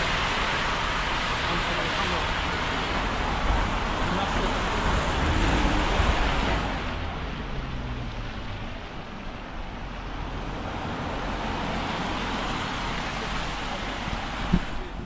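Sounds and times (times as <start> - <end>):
rushing traffic rumble: 0.0 - 15.0.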